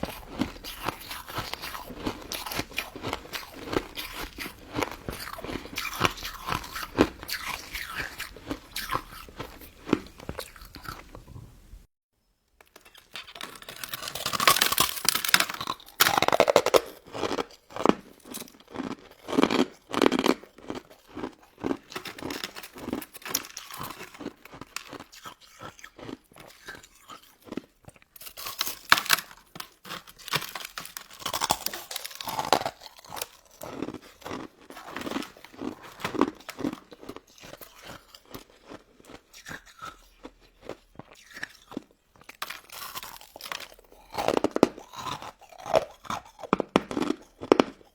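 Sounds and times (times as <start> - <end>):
crunching and chewing: 0.0 - 11.8, 12.6 - 47.9.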